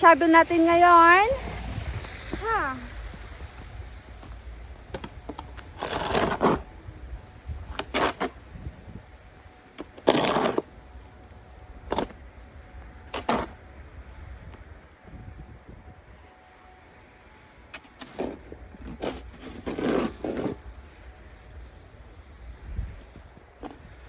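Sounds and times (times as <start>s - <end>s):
snow shovel scraping snow: 0.0s - 11.2s, 11.9s - 15.5s, 17.7s - 22.3s.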